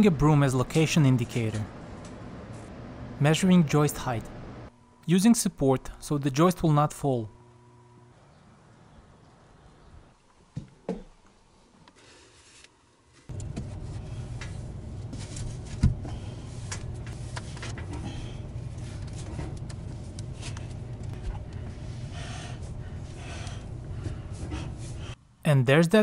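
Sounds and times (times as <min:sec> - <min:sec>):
low mechanical hum: 0:00.0 - 0:25.8.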